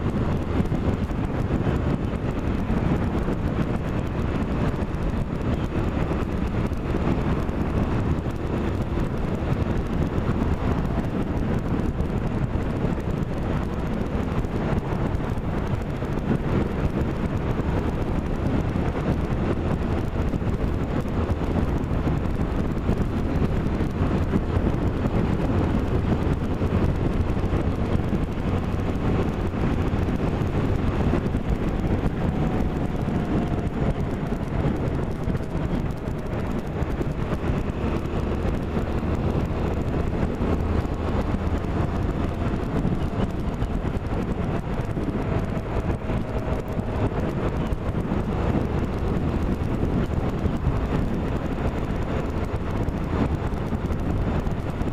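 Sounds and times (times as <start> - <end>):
vehicle running noise: 0.0 - 54.9
wind rushing over microphone: 0.0 - 54.9.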